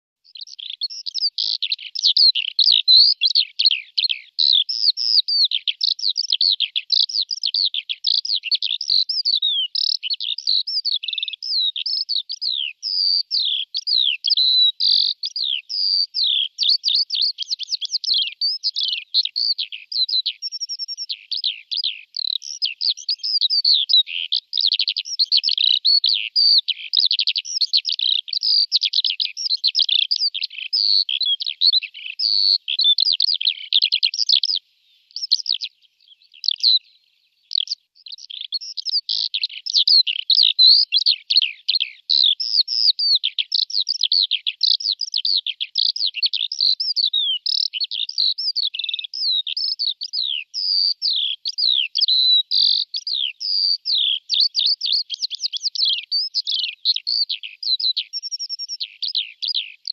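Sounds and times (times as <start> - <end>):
birds chirping and twittering: 0.2 - 59.9.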